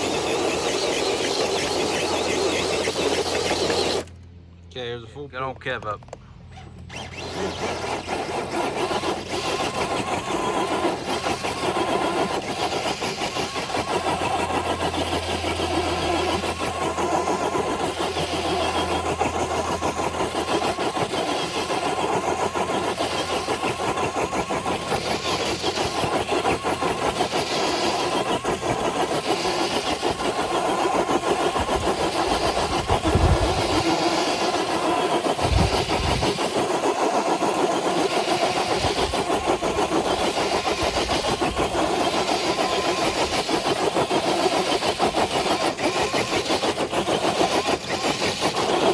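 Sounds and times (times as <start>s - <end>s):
electric motor and gears whirring: 0.0s - 48.9s.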